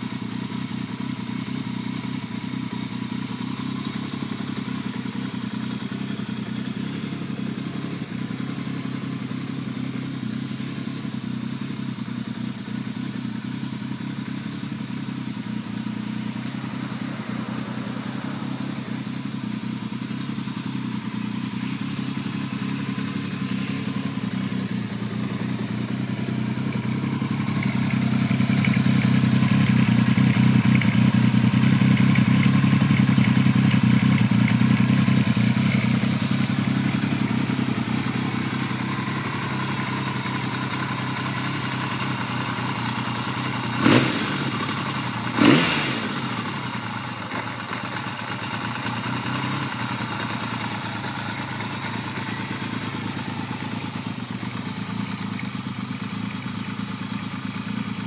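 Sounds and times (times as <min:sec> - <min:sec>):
motorcycle engine idling: 0:00.0 - 0:58.0
motorcycle throttle revs: 0:00.5 - 0:57.4.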